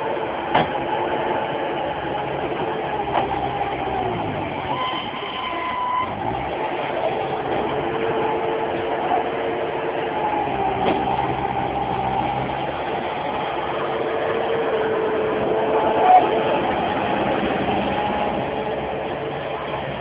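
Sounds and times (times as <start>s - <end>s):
loader engine whining: 0.0s - 20.0s.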